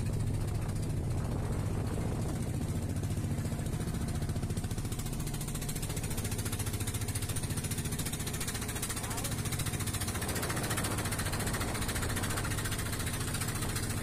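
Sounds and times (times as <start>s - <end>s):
boat engine thumping hum: 0.0s - 14.0s.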